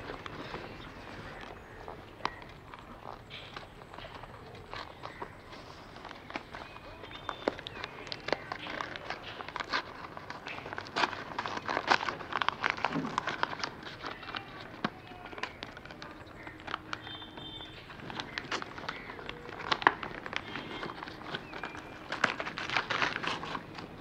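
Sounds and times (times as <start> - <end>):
paper rustling and crinkling: 0.0 - 24.0.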